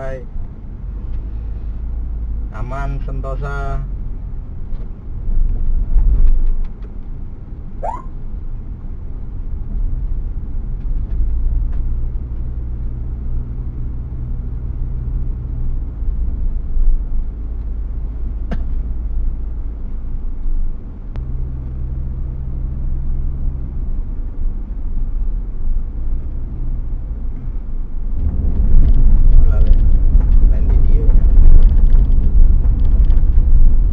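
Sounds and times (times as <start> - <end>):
road rumble: 0.0 - 33.9
vehicle engine hum: 0.0 - 33.9.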